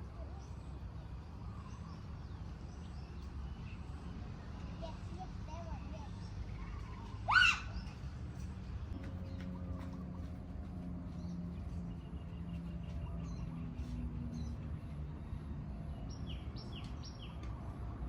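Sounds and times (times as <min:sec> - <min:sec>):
low outdoor background noise: 0:00.0 - 0:18.0.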